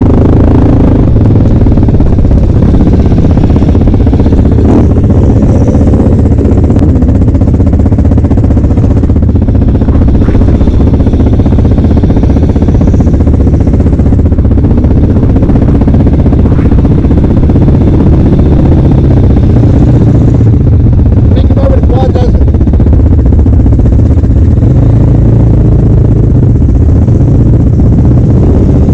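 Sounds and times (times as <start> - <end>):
off-road vehicle engines running: 0.0 - 28.9.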